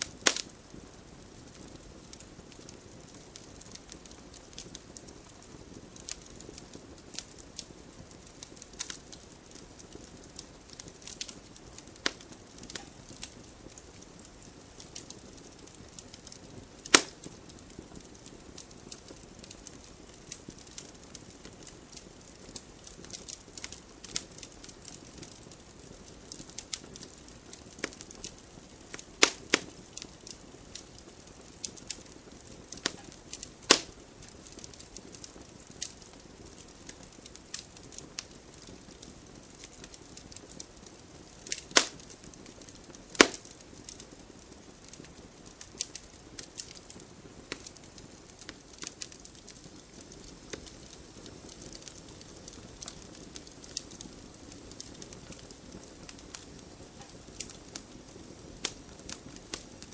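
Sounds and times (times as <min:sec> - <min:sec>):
fire sharp pops: 0:00.0 - 0:59.9
low rush of flame: 0:00.0 - 0:59.9
small crackles: 0:00.0 - 0:59.9.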